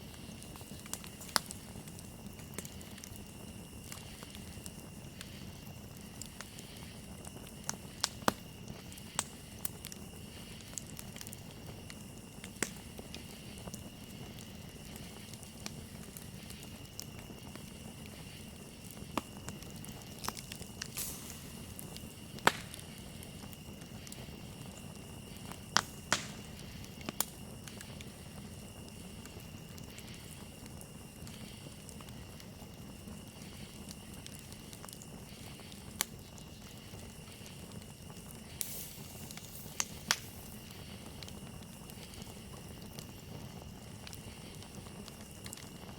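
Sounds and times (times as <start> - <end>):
campfire crackling and popping: 0.0 - 45.9
crickets chirring: 0.0 - 45.9.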